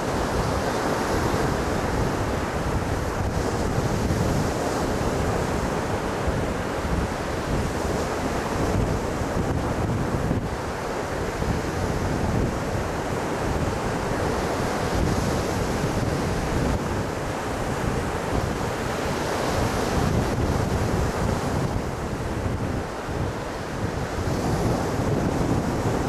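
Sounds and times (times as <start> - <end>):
surf washing up a beach: 0.0 - 26.0
wind buffeting microphone: 0.0 - 26.0.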